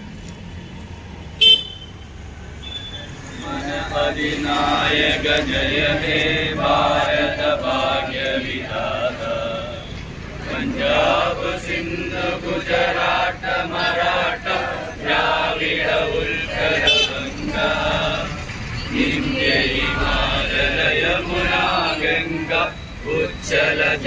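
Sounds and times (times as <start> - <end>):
crowd singing in unison: 3.1 - 24.0.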